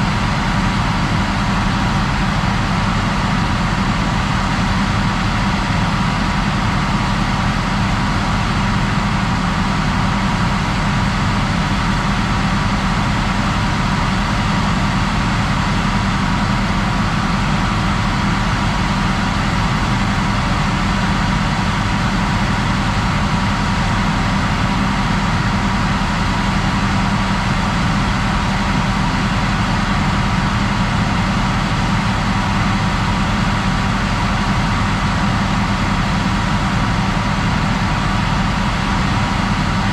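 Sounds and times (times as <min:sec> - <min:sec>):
heavy machinery engine droning: 0:00.0 - 0:39.9.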